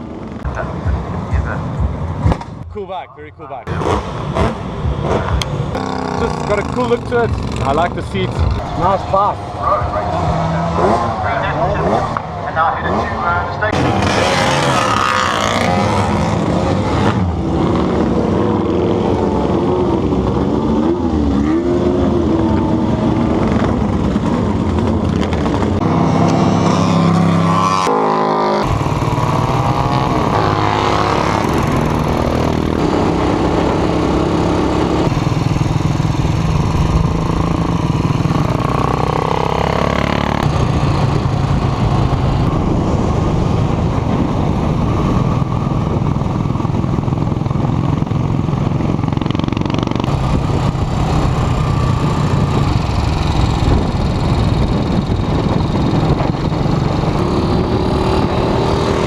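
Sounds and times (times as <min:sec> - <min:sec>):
racing motorcycles revving past: 0:03.7 - 0:59.0.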